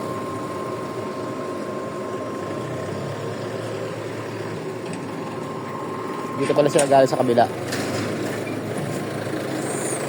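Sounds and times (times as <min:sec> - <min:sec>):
thin steady whine: 0:00.0 - 0:10.0
vehicle engine idling: 0:00.0 - 0:10.0.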